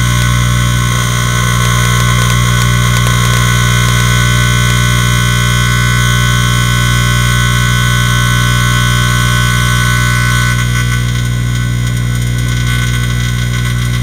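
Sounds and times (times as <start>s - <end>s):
high buzzing whine: 0.0s - 14.0s
microwave oven humming: 0.0s - 14.0s.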